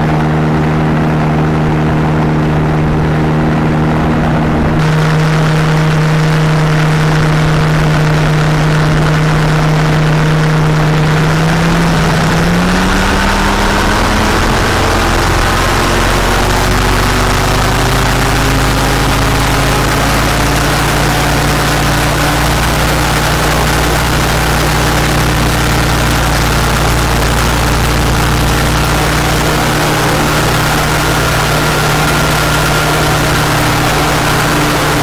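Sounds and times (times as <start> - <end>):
propeller rushing: 0.0 - 35.0
two-stroke engine running: 0.0 - 35.0.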